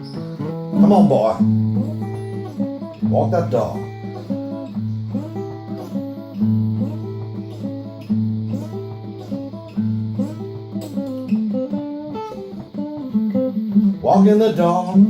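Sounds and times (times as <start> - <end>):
blues guitar riff: 0.0 - 15.0.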